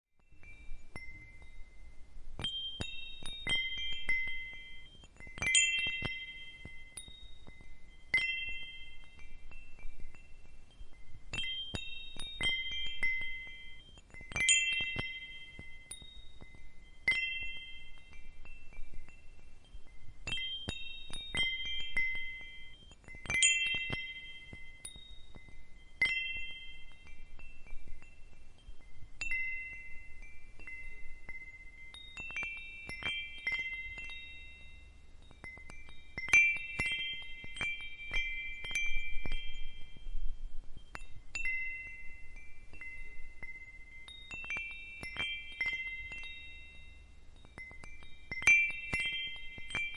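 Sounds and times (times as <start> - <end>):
wind chimes tinkling: 0.2 - 49.9.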